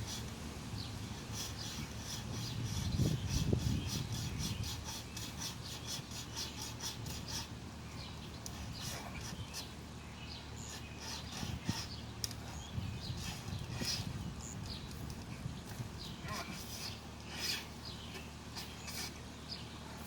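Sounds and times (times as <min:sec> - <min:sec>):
wire saw rasping through branch: 0:00.0 - 0:00.4, 0:01.0 - 0:19.3.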